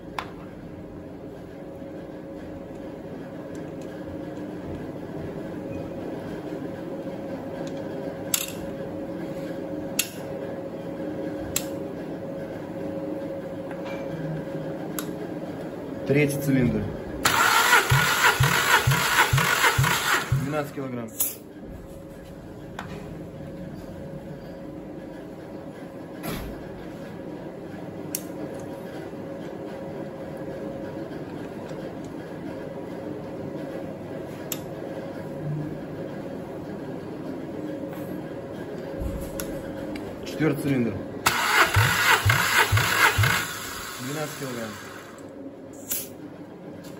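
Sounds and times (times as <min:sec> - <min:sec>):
steady hum: 0:00.0 - 0:30.9, 0:34.5 - 0:46.7.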